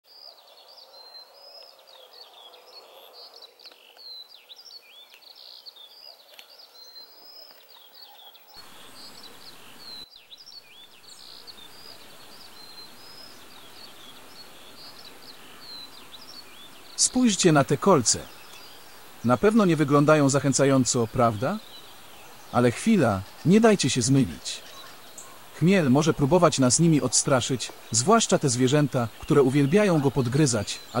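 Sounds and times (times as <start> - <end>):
soft outdoor hiss: 0.1 - 31.0
songbirds chirping and singing: 0.1 - 31.0.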